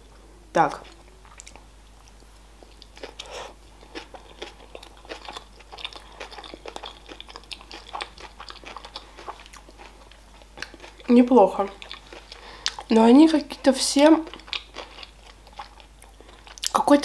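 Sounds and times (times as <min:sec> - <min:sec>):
person chewing with mouth clicks: 0:00.8 - 0:11.1, 0:11.7 - 0:12.9, 0:14.2 - 0:16.8.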